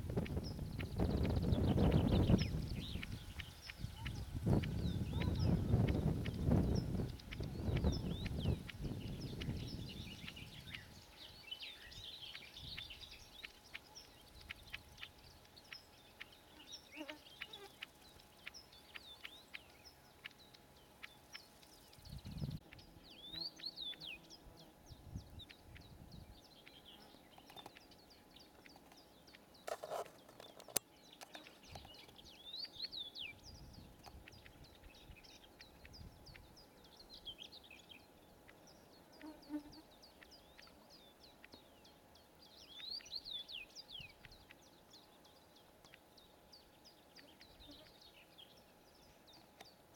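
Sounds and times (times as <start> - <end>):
bird song: 0.0 - 49.9.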